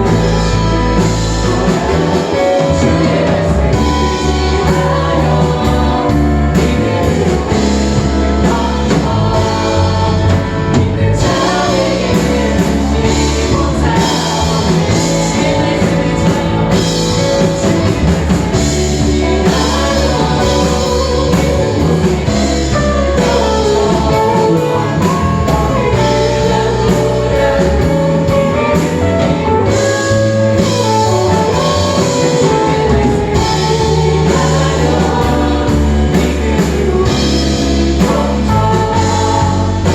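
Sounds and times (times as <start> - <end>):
band accompaniment: 0.0 - 39.9
group singing gospel worship song: 0.0 - 39.9.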